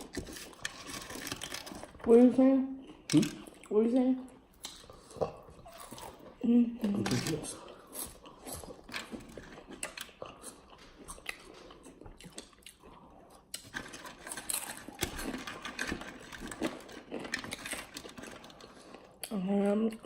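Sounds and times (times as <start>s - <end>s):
chewing crunchy chips: 0.0s - 2.0s, 4.5s - 20.0s.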